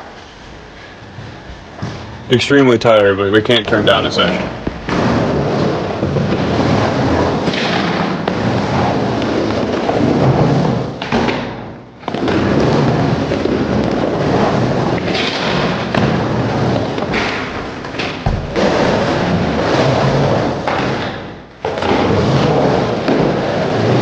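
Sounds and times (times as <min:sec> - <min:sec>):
skateboard wheels rolling on wood: 0:00.0 - 0:24.0.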